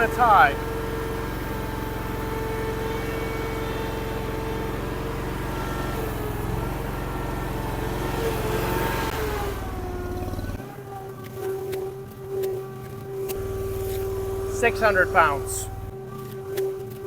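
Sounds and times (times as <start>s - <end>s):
skid steer engine hum: 0.0s - 11.0s, 12.9s - 16.0s
whining hydraulic tone: 0.0s - 17.0s.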